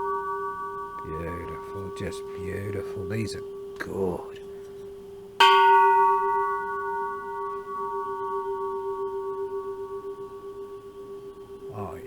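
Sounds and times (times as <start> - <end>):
temple bell ringing: 0.0 - 4.8, 5.4 - 11.8.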